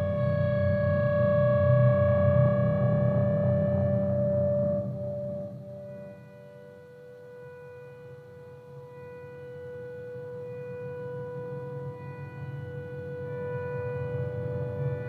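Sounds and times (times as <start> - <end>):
ambient electric guitar drone: 0.0 - 15.0.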